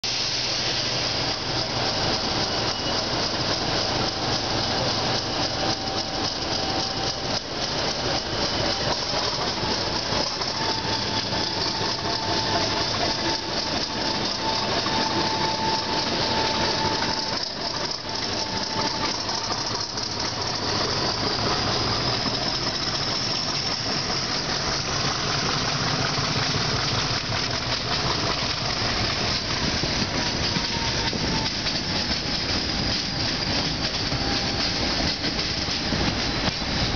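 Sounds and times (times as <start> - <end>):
diesel locomotive engine droning: 0.0 - 36.9.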